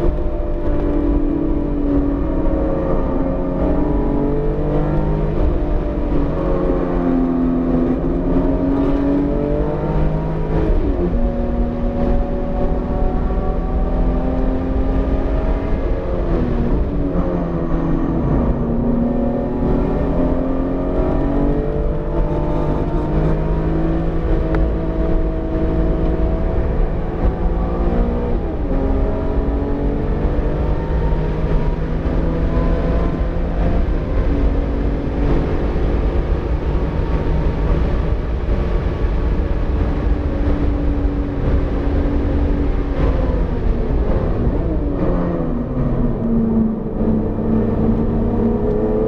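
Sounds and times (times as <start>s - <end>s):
car engine accelerating: 0.0s - 49.0s
heavy low rumble: 1.4s - 49.0s.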